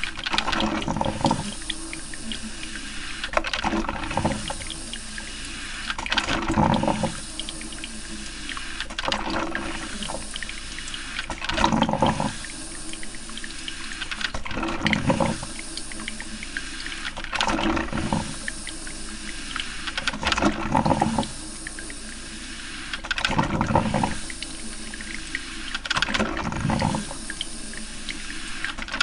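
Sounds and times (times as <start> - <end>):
coffee maker hissing: 0.0 - 29.0
coffee maker water gurgling: 0.0 - 29.0.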